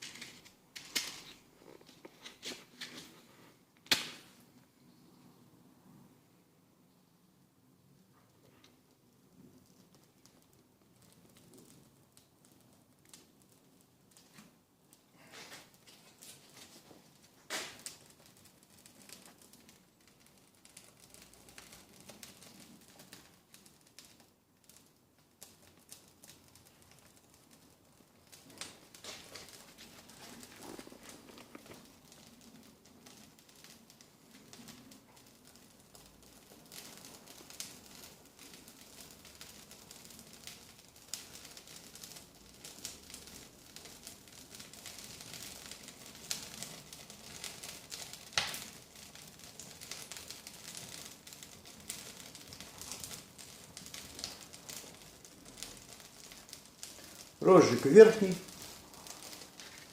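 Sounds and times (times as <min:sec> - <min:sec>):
fire crackling: 0:00.0 - 0:06.6, 0:07.3 - 0:59.9.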